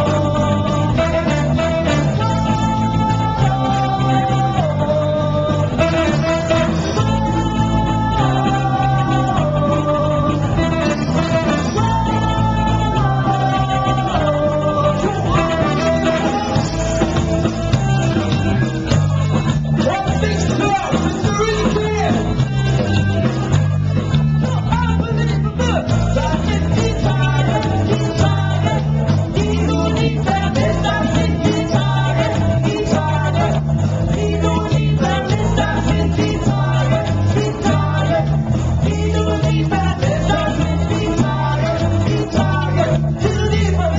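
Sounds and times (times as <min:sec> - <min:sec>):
electric guitar: 0:00.0 - 0:43.9
person singing lead vocals: 0:00.0 - 0:43.9
repeating bass line: 0:00.0 - 0:43.9.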